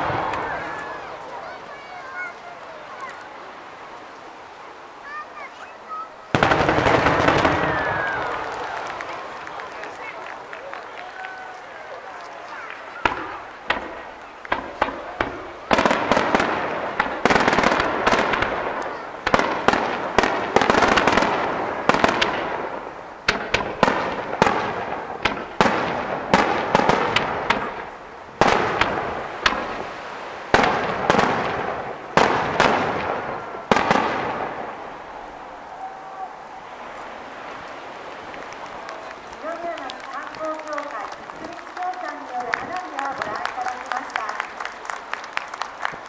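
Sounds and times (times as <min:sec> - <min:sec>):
fireworks bangs: 0:00.0 - 0:03.3, 0:05.1 - 0:36.2, 0:36.9 - 0:46.0
fireworks crackling: 0:00.0 - 0:46.0.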